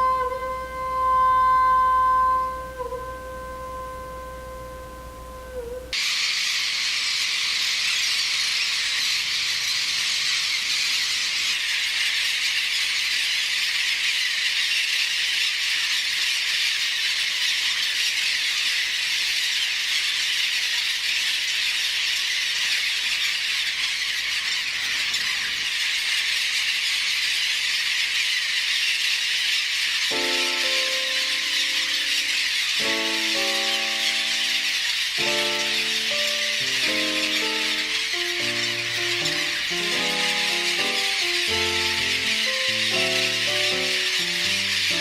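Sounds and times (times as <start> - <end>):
bird colony calling and squealing: 5.9 - 45.0.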